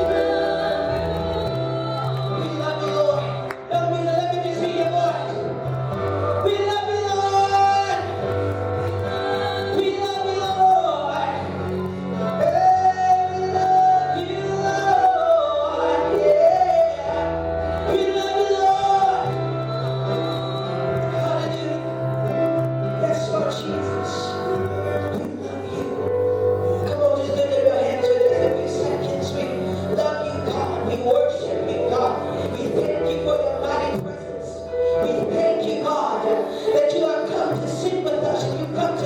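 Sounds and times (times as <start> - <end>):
voices singing worship song: 0.0 - 39.0.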